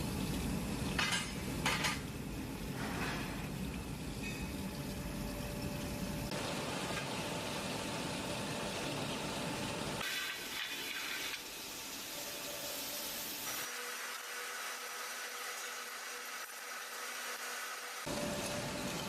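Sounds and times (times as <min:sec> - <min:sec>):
factory machinery hissing din: 0:02.6 - 0:19.0.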